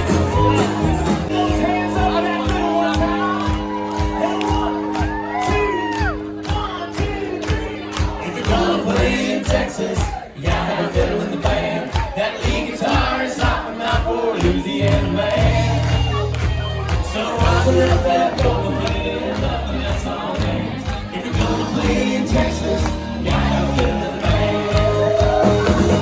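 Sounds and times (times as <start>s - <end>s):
crowd singing and shouting: 0.0s - 26.0s
drum beat: 0.0s - 26.0s
live band playing: 0.0s - 26.0s.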